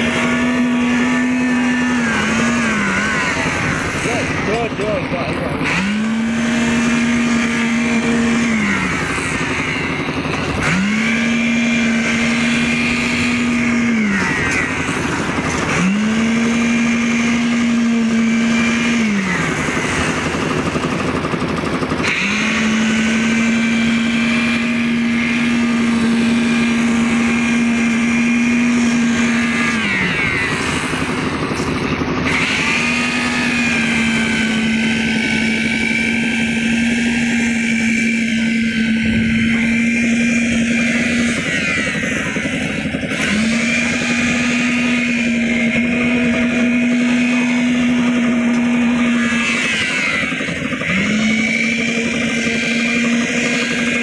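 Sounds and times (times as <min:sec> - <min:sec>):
concrete mixer engine running: 0:00.0 - 0:54.0
concrete vibrator buzzing: 0:00.0 - 0:54.0.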